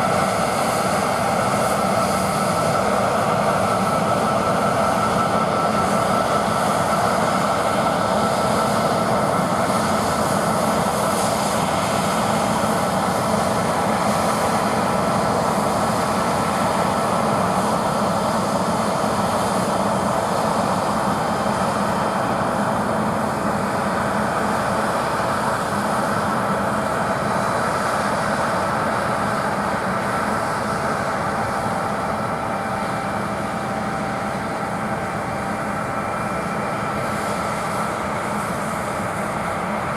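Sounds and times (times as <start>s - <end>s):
combine harvester drone: 0.0s - 39.9s
high machine whine: 0.0s - 39.9s.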